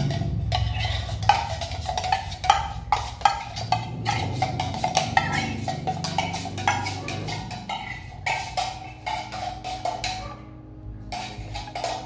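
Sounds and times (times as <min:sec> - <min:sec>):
wood-block-like percussion: 0:00.0 - 0:10.2.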